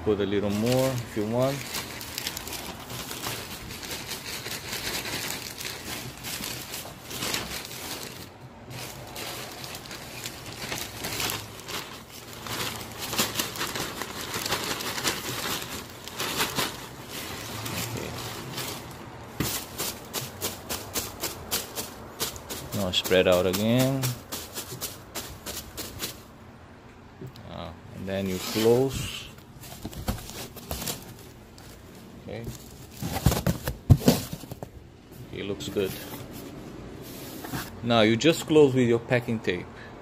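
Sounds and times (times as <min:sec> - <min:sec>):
foam packing peanuts rustling: 0:00.3 - 0:26.4, 0:28.0 - 0:37.8
plastic bag crinkling: 0:00.4 - 0:26.3, 0:28.1 - 0:34.8.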